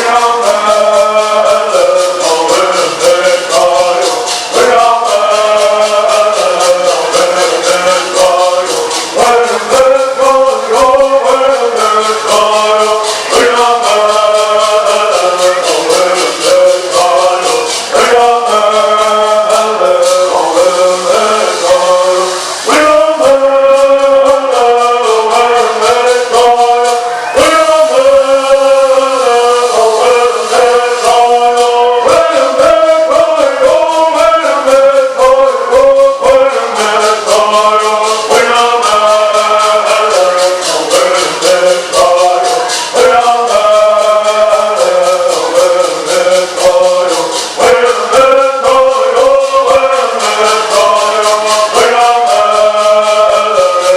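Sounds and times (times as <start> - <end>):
gourd rattles shaking: 0.0 - 53.9
men singing in unison: 0.0 - 53.9.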